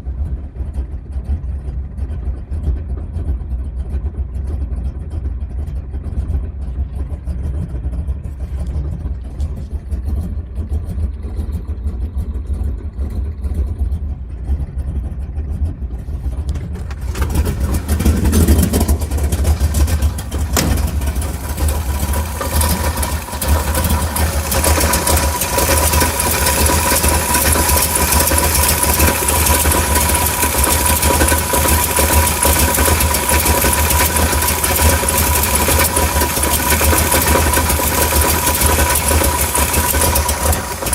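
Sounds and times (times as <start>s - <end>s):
engine rumbling: 0.0s - 40.9s.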